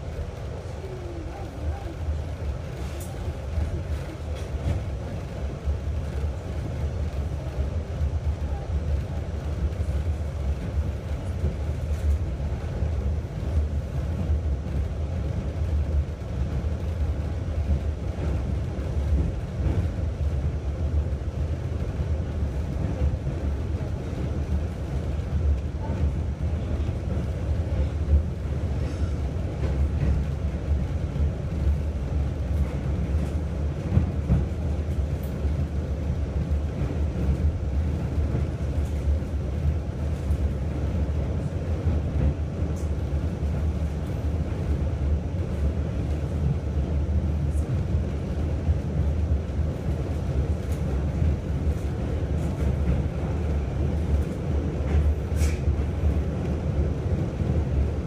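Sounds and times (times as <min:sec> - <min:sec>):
subway train wheels rumbling on rails: 0:00.0 - 0:58.0.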